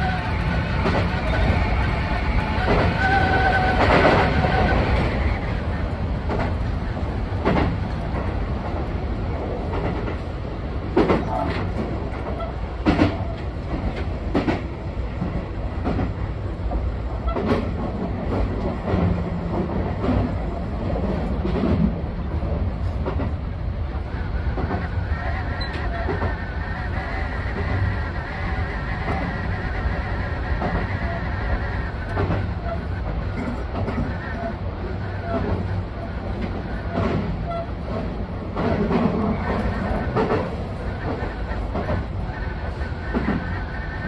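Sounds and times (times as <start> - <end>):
electric train rumble: 0.0 - 44.0.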